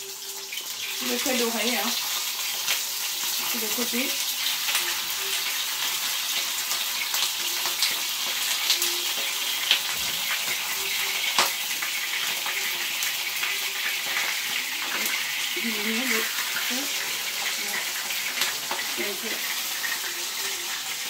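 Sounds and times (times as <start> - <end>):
meat sizzling in a pan: 0.0 - 21.0
oil popping and crackling: 0.0 - 21.0.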